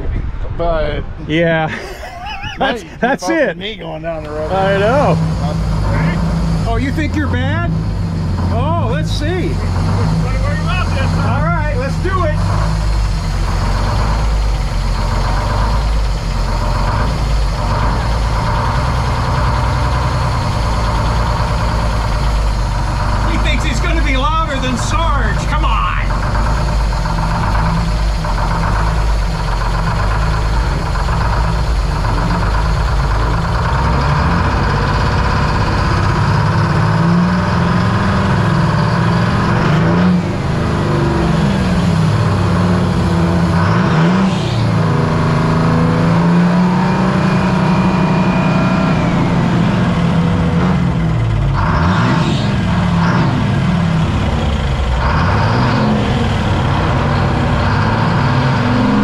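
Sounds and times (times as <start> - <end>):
diesel truck engine revving: 2.5 - 59.0.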